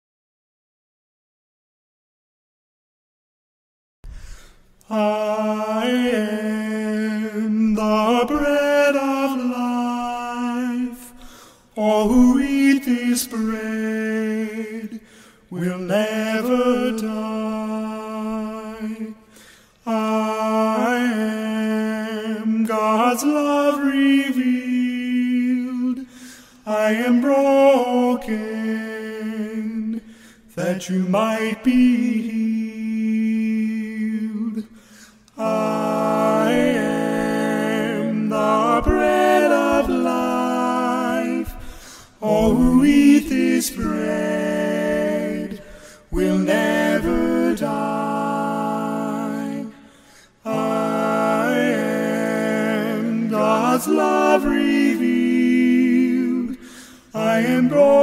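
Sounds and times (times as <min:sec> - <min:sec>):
vocal quartet singing a cappella: 0:04.1 - 0:58.0.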